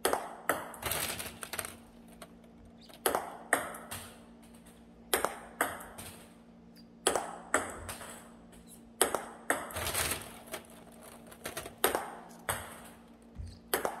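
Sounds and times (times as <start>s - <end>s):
table tennis ball clicking: 0.0s - 6.2s, 7.0s - 14.0s
steady low hum: 0.0s - 14.0s.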